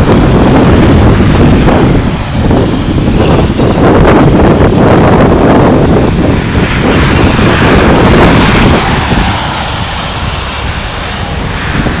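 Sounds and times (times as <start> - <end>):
distant jet engine noise: 0.0 - 12.0
wind buffeting microphone: 0.0 - 12.0.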